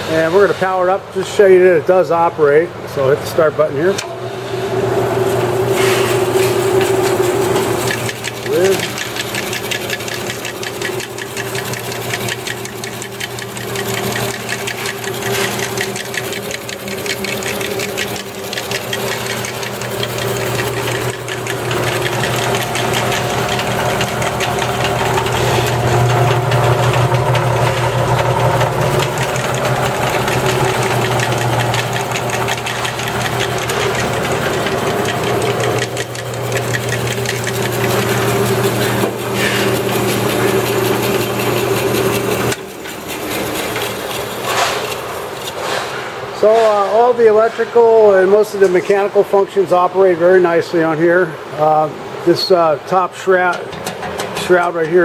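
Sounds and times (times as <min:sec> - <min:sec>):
band saw motor humming: 0:00.0 - 0:48.8, 0:50.8 - 0:55.0.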